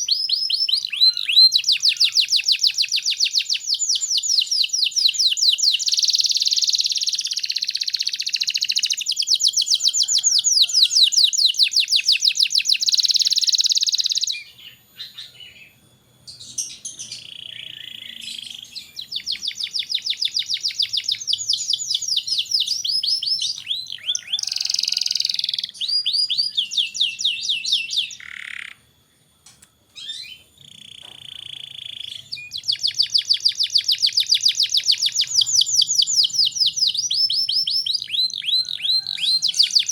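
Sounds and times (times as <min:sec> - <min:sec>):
canary singing trills: 0:00.0 - 0:29.0, 0:29.8 - 0:39.9.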